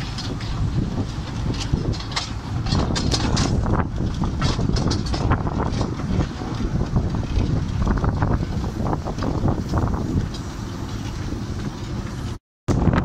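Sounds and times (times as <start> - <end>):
train carriage rumbling: 0.0 - 13.0
wheels clattering on track: 0.0 - 13.0
wind buffeting microphone: 0.0 - 13.0.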